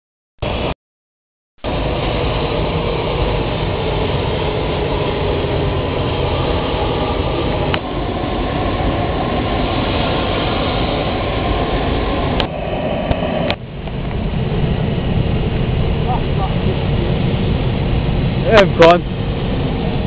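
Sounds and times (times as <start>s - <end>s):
jet engines at taxi power: 0.4s - 0.8s, 1.6s - 20.0s.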